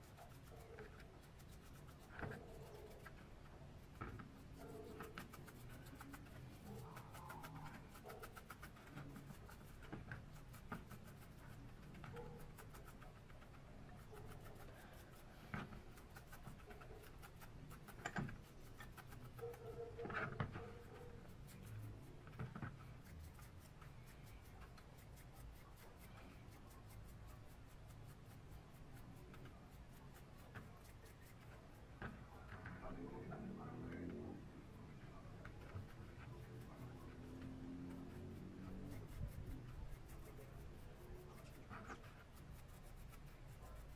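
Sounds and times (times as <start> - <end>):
brush scratching on metal: 0.0 - 43.9.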